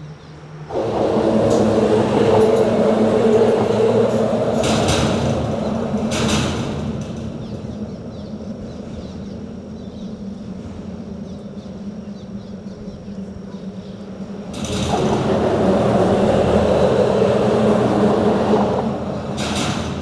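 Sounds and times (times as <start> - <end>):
low rumble with hum: 0.1 - 17.9.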